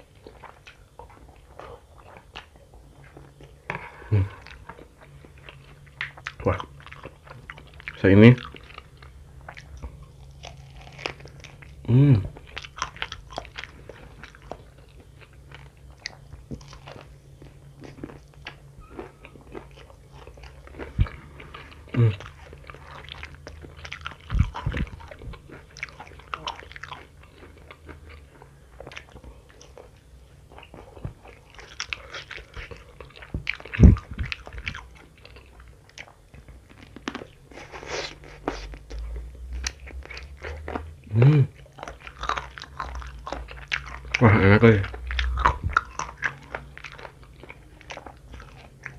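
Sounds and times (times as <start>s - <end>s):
crunching and wet chewing: 0.0s - 48.9s.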